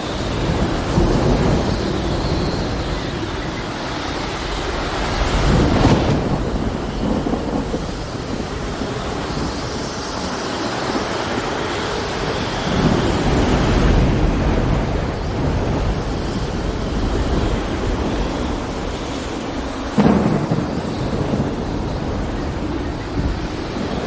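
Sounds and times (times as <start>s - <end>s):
sharp thunderclap: 0.0s - 10.0s, 12.4s - 24.0s
heavy rain: 0.0s - 24.0s
thunder rumbling: 0.0s - 24.0s
waves washing: 0.0s - 24.0s.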